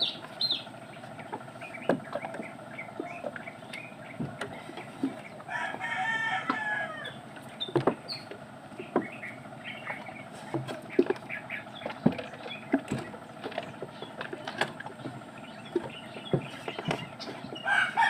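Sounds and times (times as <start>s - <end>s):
footsteps in a boat: 0.0s - 18.0s.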